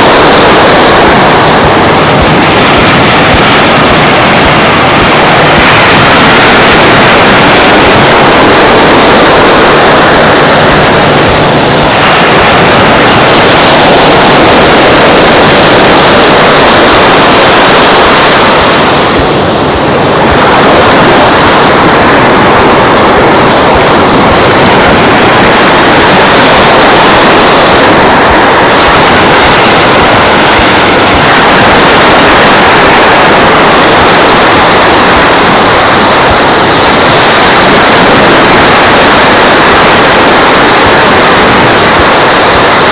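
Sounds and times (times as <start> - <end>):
surf on a beach: 0.0 - 42.9
wind: 0.0 - 42.9.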